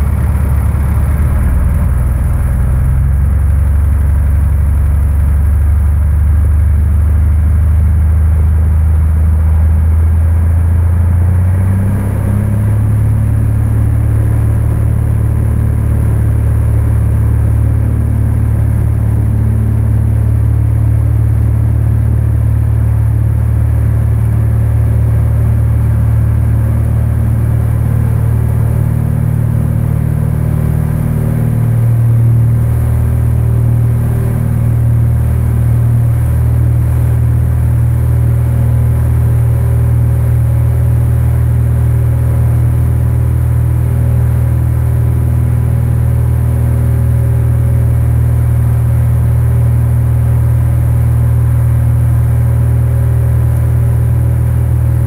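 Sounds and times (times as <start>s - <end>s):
airplane piston engine and propeller: 0.0s - 55.0s.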